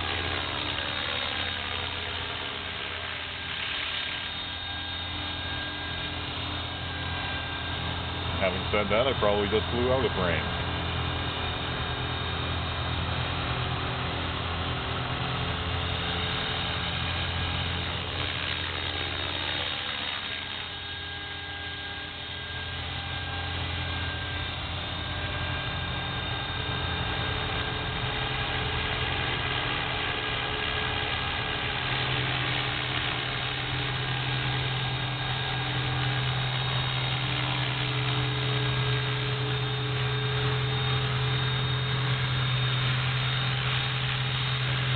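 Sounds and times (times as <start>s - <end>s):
rc helicopter motor whine: 0.0s - 44.9s.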